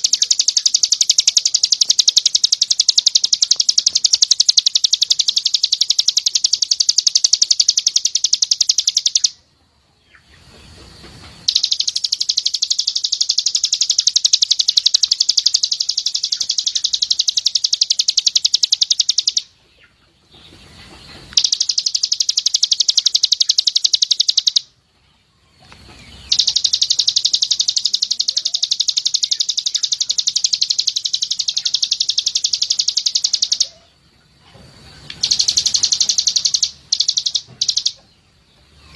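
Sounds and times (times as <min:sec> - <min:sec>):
songbird rapid high trills: 0:00.0 - 0:09.4, 0:11.2 - 0:19.5, 0:21.2 - 0:24.7, 0:26.0 - 0:33.9, 0:34.8 - 0:38.0.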